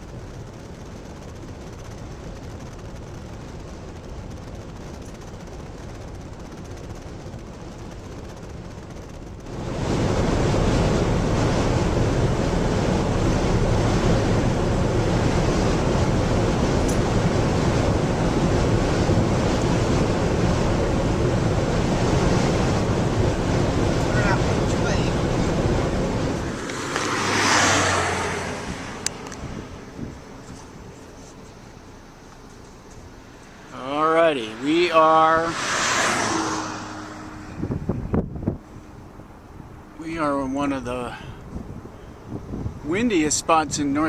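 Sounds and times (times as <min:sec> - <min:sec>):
wind blowing across microphone: 0:00.0 - 0:31.9, 0:32.5 - 0:44.0.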